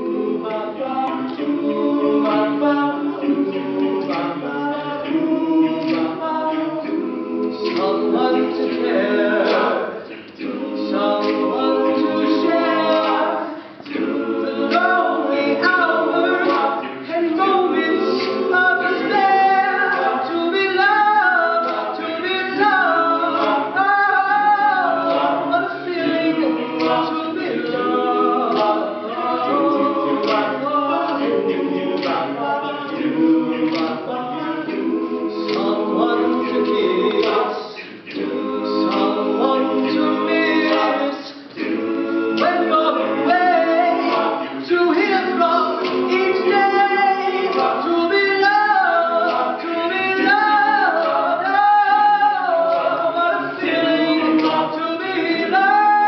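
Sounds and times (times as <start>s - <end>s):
a cappella group singing: 0.0s - 56.0s.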